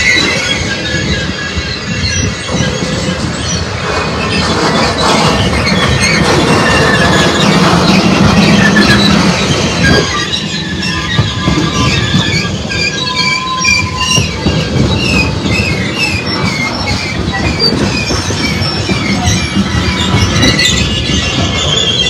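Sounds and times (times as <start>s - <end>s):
high-pitched wheel squeals: 0.0s - 22.0s
train wheels rumbling on rail: 0.0s - 22.0s.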